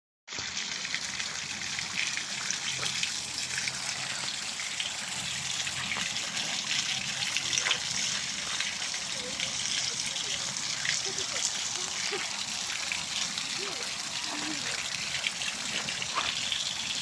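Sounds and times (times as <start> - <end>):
fountain water splashing: 0.3 - 17.0.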